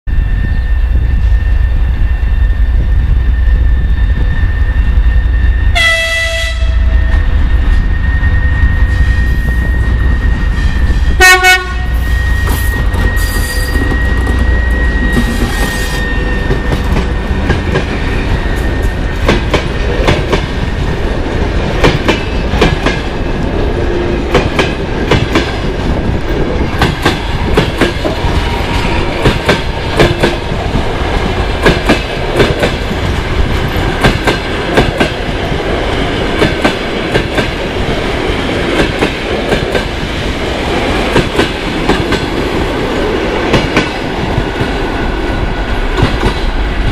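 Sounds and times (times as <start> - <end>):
train rumble: 0.1 - 46.9.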